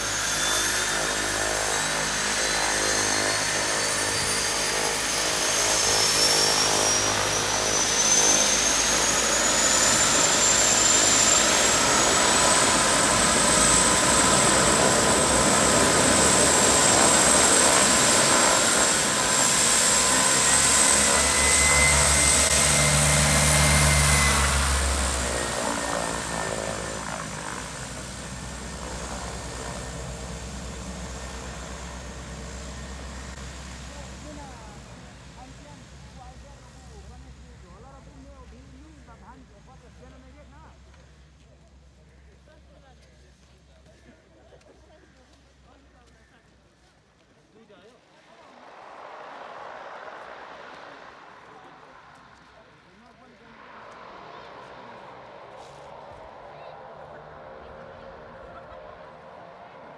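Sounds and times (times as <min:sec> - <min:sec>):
high turbine whine: 0:00.0 - 0:40.7, 0:47.8 - 0:59.9
turboprop engines running: 0:00.0 - 0:59.9.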